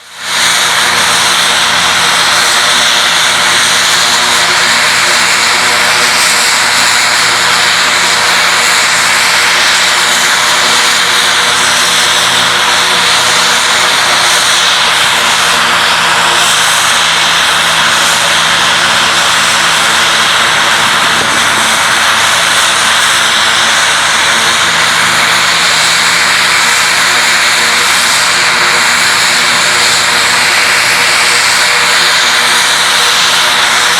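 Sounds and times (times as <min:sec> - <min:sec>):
propeller noise: 0:00.0 - 0:33.9
turboprop engine idling: 0:00.0 - 0:33.9.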